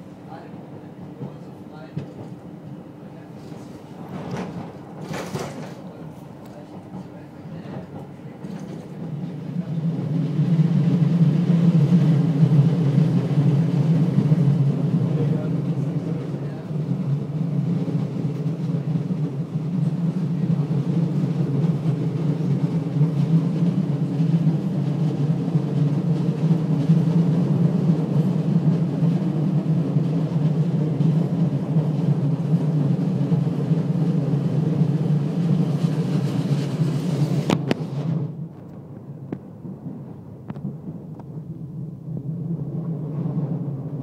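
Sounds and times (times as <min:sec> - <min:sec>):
light rail car rumbling: 0:00.0 - 0:44.0.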